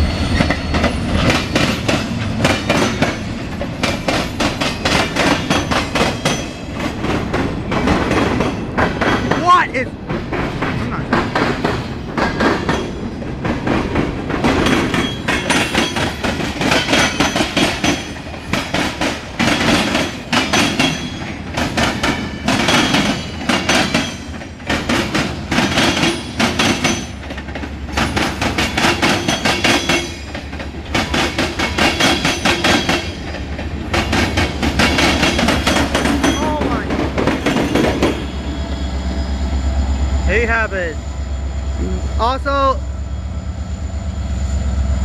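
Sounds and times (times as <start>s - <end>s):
train low rumble: 0.0s - 45.0s
train wheels clacking over joints: 0.3s - 38.8s.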